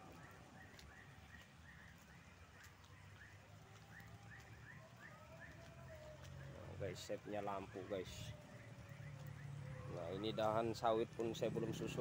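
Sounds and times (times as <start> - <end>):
rain drops pattering: 0.0 - 12.0.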